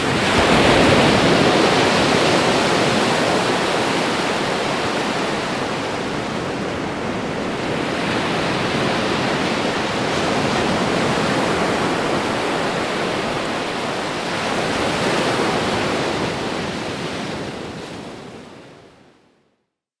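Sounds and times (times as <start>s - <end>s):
ocean waves washing in: 0.0s - 18.8s.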